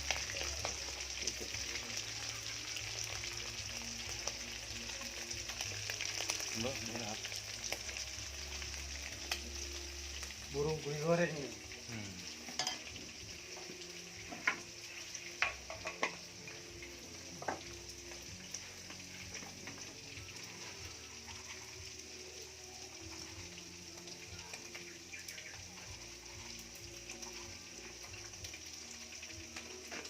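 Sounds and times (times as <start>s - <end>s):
hot oil sizzling in a pan: 0.0s - 30.0s.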